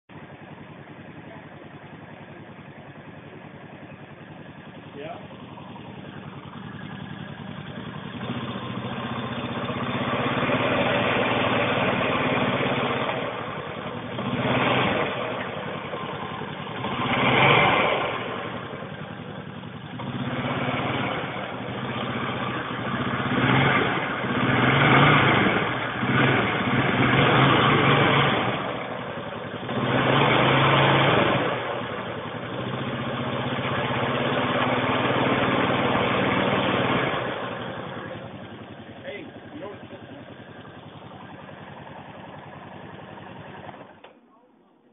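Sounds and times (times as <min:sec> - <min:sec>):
atv engine revving: 0:00.1 - 0:44.2.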